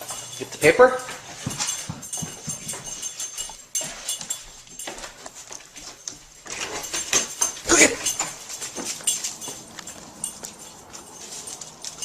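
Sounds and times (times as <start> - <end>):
dog paws clicking and scuffing: 0.0 - 12.0.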